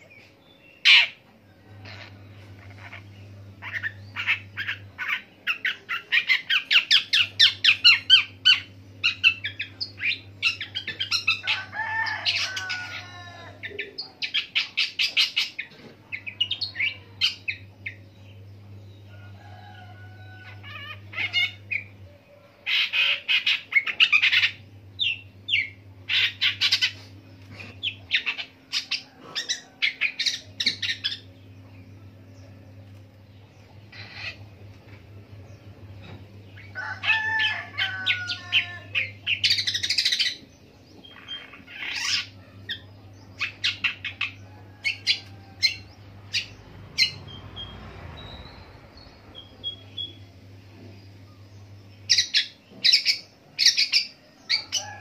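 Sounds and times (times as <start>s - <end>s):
shrike singing: 0.0s - 55.0s.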